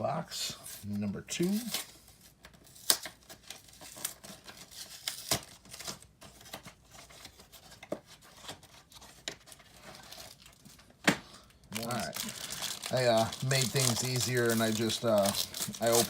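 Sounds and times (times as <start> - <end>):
cardboard tearing: 1.4 - 10.5, 11.8 - 16.0
packaging rustling: 1.4 - 16.0.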